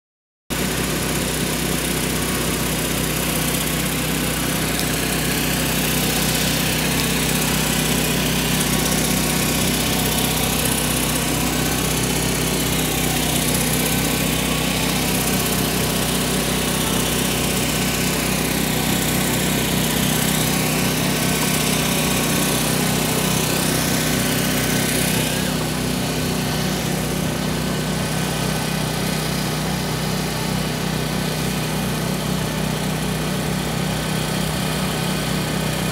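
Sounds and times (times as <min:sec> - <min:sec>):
engine idling: 0:00.5 - 0:35.9.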